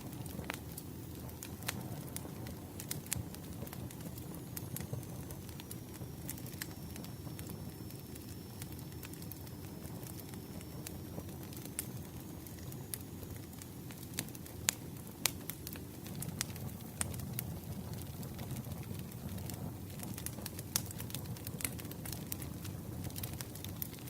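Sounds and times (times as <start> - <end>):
burning wood crackling and popping: 0.0 - 24.0
campfire flames rushing: 0.0 - 24.0.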